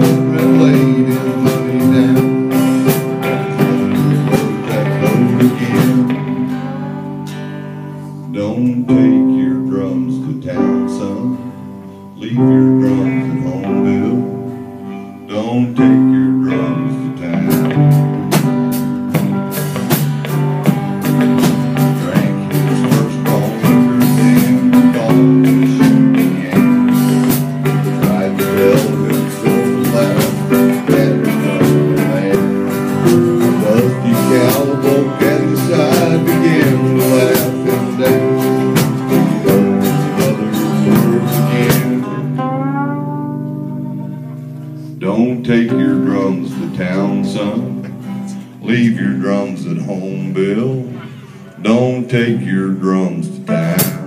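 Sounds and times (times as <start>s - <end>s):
country band playing live: 0.0s - 54.0s.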